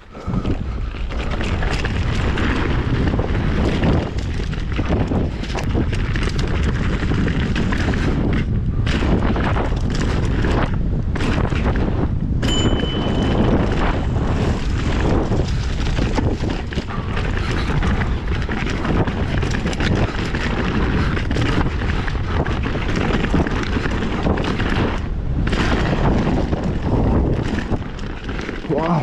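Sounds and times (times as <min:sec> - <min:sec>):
bike clattering and rattling: 0:00.0 - 0:29.0
wind noise on microphone: 0:00.0 - 0:29.0.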